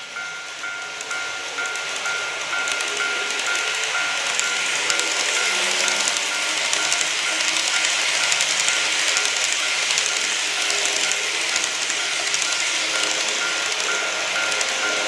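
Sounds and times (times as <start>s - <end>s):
level crossing warning bell: 0.0s - 15.0s
model train whirring and rattling: 0.0s - 15.0s.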